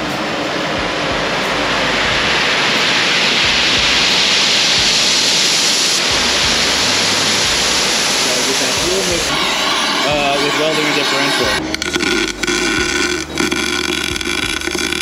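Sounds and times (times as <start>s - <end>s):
torch burning with rushing hiss: 0.7s - 15.0s.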